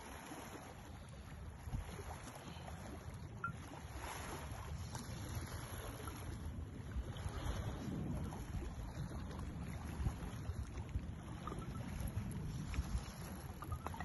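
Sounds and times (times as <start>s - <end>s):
sea wash: 0.0s - 14.0s
wind buffeting microphone: 0.0s - 14.0s.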